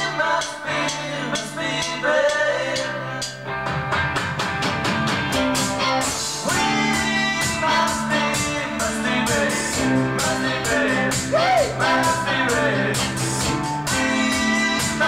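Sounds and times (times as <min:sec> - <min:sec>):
person singing: 0:00.0 - 0:03.5, 0:05.8 - 0:15.0
drum kit beat: 0:00.0 - 0:15.0
guitar: 0:00.0 - 0:15.0
rock band playing: 0:00.0 - 0:15.0.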